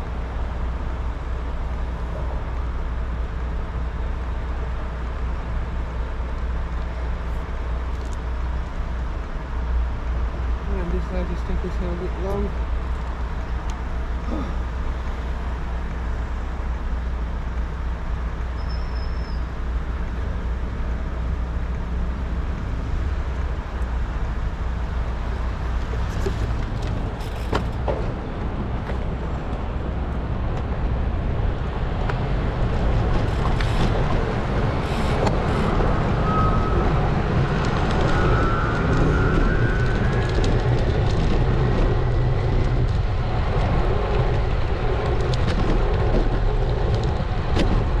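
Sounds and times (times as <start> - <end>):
street traffic: 0.0 - 48.0
tyre and road noise: 0.0 - 48.0.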